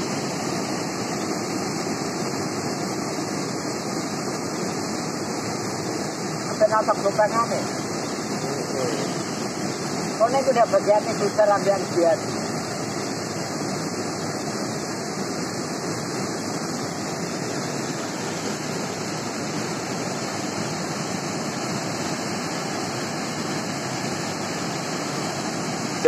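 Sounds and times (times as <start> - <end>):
river rushing: 0.0 - 26.0
water tumbling over cascade: 0.0 - 26.0.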